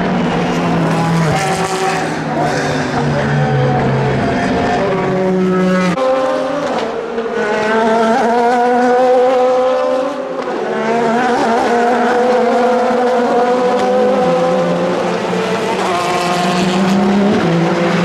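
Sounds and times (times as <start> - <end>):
race car engines running hard: 0.0 - 18.0.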